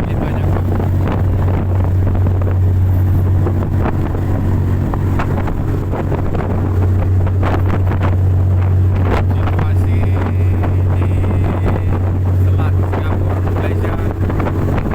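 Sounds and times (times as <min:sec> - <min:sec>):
boat engine droning: 0:00.0 - 0:14.9
wind buffeting microphone: 0:00.0 - 0:14.9.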